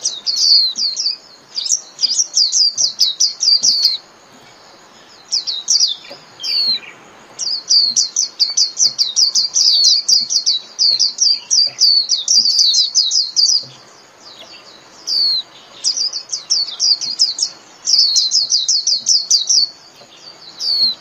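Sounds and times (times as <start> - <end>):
bird twittering song: 0.0 - 21.0.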